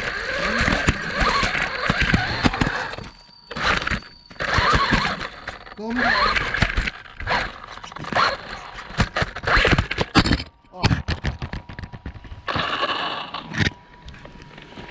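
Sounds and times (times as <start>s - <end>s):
toy car scraping and knocking on stone: 0.0s - 13.8s.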